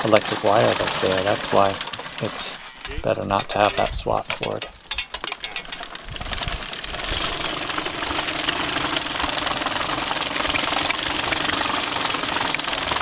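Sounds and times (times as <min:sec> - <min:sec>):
sickle-bar mower chattering: 0:00.0 - 0:13.0.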